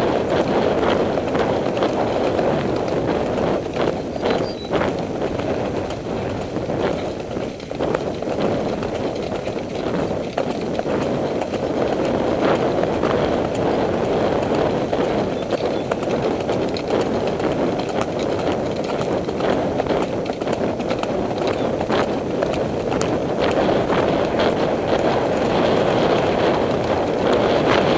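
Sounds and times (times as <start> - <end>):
horse hooves clip-clopping on dirt: 0.0 - 27.9
steady rushing noise: 0.0 - 27.9.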